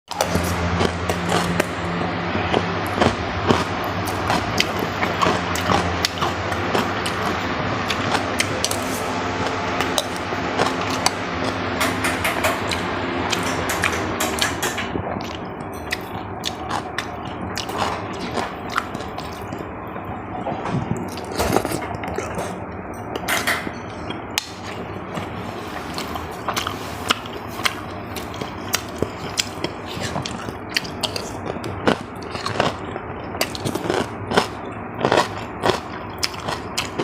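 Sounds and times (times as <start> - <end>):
person chewing with clicks: 0.1 - 19.7, 21.0 - 37.0.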